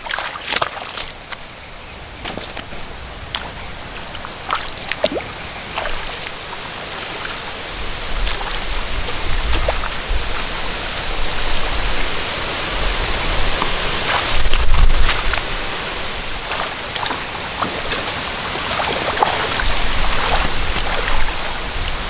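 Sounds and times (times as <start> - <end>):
small splashes and knocks: 0.0 - 12.3, 13.1 - 22.0
rush of flowing water: 0.0 - 22.0.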